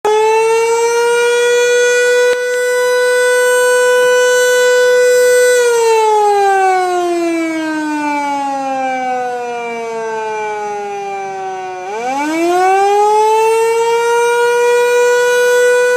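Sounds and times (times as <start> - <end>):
wailing alarm siren: 0.0 - 15.9.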